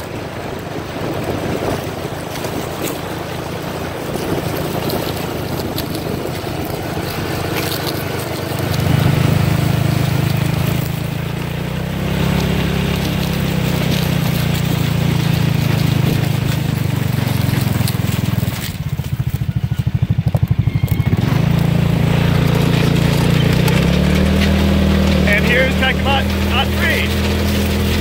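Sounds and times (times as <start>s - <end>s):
tractor diesel engine: 0.0s - 28.0s.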